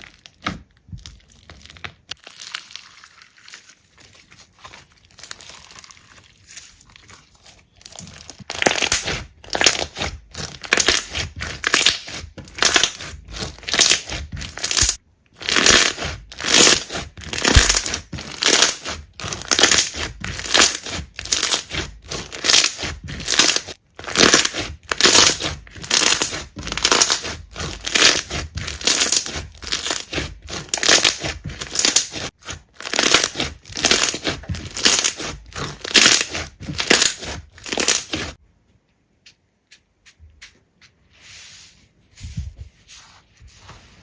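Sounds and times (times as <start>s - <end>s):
hands squishing slime: 0.0s - 38.4s.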